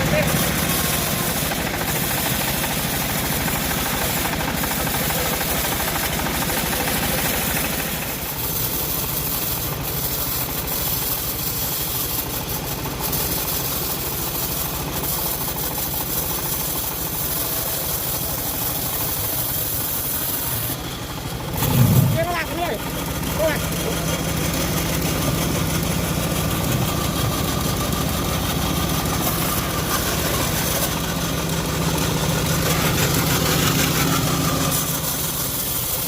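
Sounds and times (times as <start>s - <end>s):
sawmill engine running: 0.0s - 36.0s.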